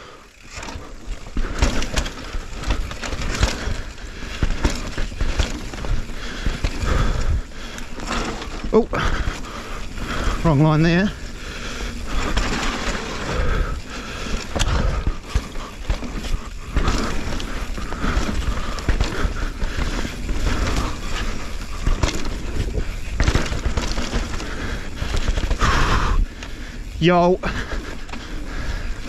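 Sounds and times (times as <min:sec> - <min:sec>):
bike rattling and knocking: 0:00.0 - 0:29.0
bike tyres rolling over dirt: 0:00.0 - 0:29.0.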